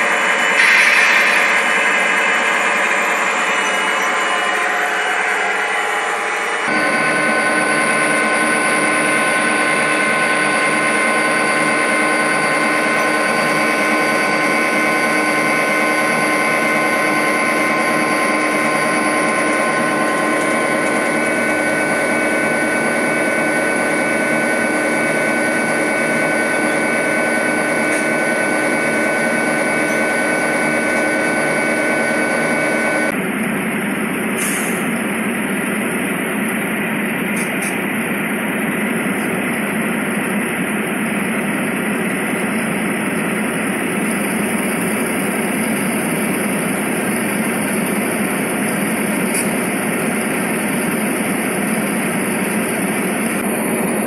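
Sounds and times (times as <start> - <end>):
model train whirring and whining: 0.0 - 54.0.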